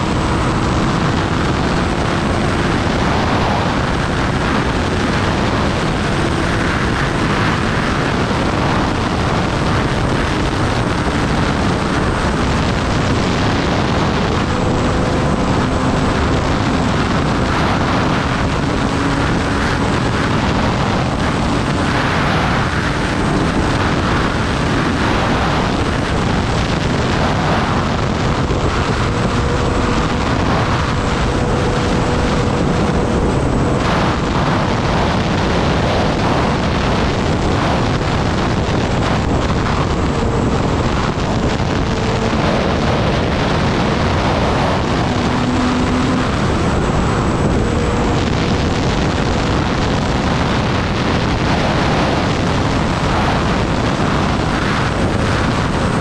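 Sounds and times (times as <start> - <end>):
motorcycle engine running: 0.0 - 50.8
wind on microphone: 0.0 - 56.0.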